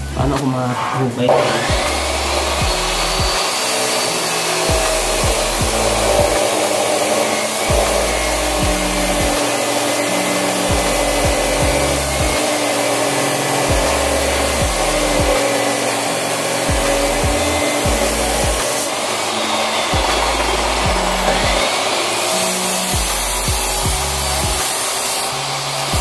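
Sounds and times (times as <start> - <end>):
chop saw grinding steel: 0.0 - 26.0.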